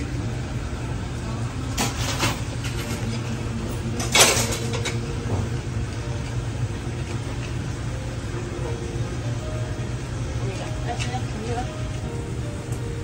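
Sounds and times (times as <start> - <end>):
low hum of shop equipment: 0.0 - 13.0.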